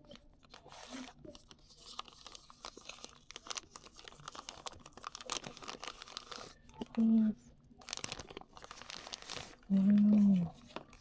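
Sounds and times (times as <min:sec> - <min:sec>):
plastic and paper rustling: 0:00.0 - 0:07.2, 0:07.8 - 0:11.0.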